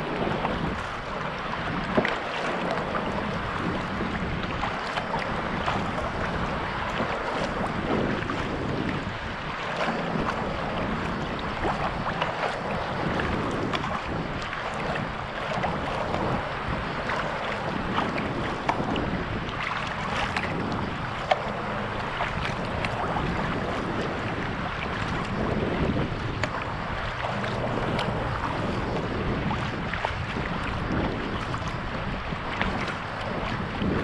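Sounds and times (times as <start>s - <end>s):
paddle splashing and dripping: 0.0s - 34.0s
water lapping at hull: 0.0s - 34.0s
wind on microphone: 0.0s - 34.0s.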